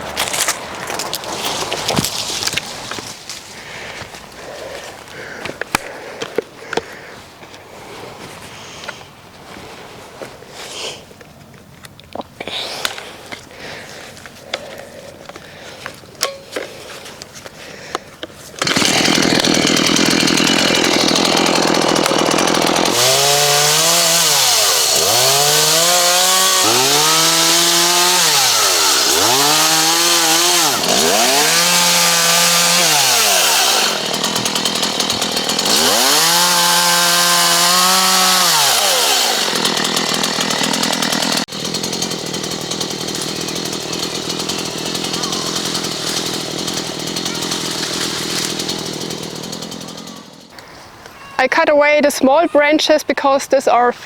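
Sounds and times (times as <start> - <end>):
chainsaw cutting branches: 0.0 - 7.1, 12.5 - 50.6.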